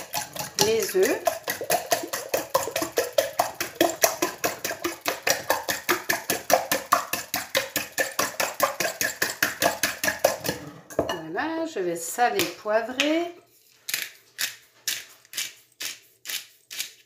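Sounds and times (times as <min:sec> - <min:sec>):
fork beating eggs in a bowl: 0:00.0 - 0:11.2, 0:12.3 - 0:17.0.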